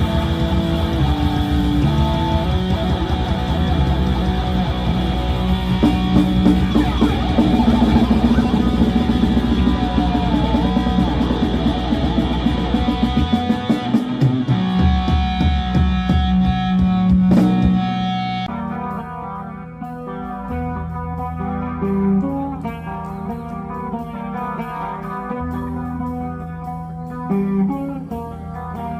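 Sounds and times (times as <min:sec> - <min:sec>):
bass guitar: 0:00.0 - 0:28.9
drum kit: 0:00.0 - 0:28.9
electric guitars: 0:00.0 - 0:28.9.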